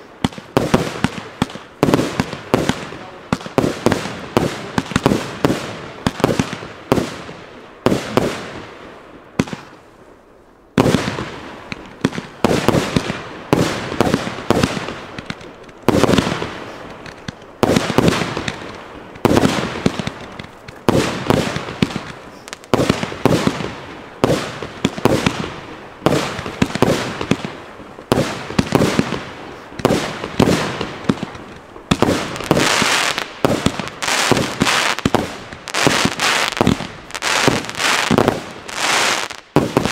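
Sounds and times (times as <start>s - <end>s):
fireworks bangs: 0.0s - 9.8s, 10.8s - 39.9s.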